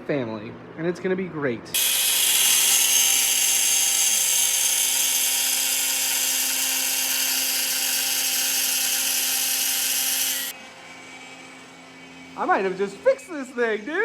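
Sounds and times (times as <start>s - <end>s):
router spindle high whine: 1.8s - 14.0s.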